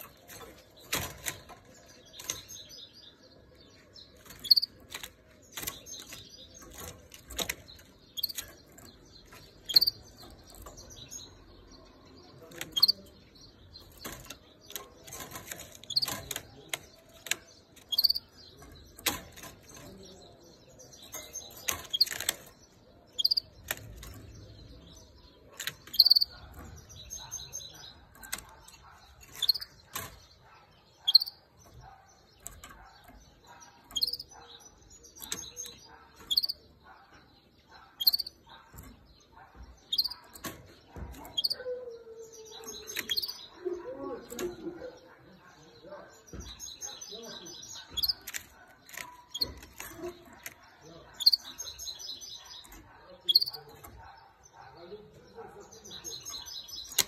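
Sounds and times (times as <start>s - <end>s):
canary chirping: 0.0s - 57.0s.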